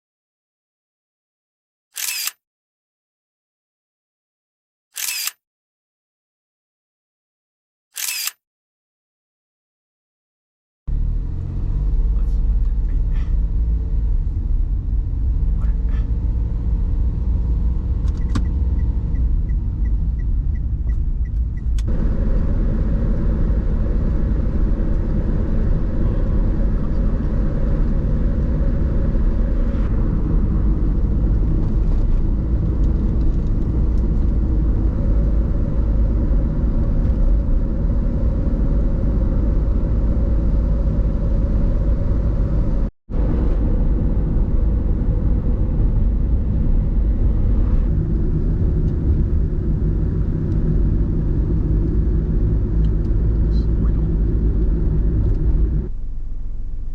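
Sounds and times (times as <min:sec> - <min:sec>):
car engine and road rumble: 0:10.9 - 0:56.9.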